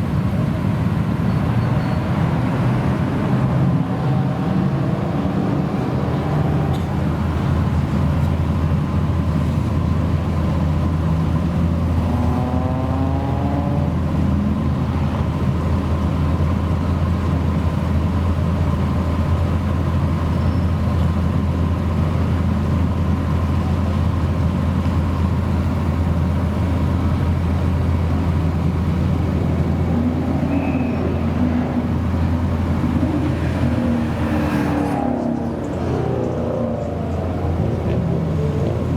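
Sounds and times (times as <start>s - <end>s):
car engine low drone: 0.0s - 38.9s.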